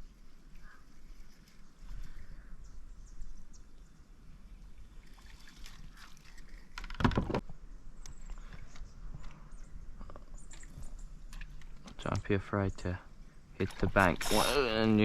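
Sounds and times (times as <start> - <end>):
faint water and boat noise: 0.0 - 15.0.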